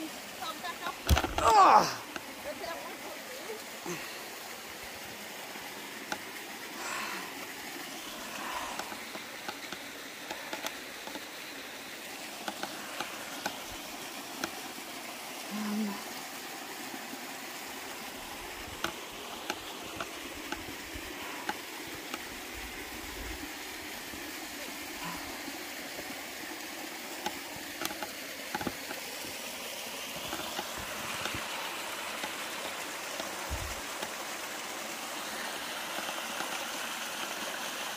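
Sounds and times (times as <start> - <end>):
small waterfall and creek rushing: 0.0 - 37.9.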